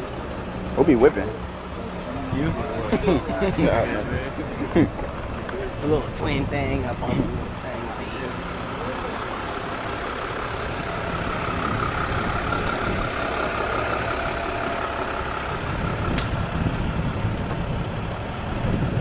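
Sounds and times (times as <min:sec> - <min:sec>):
van engine idling: 0:00.0 - 0:19.0.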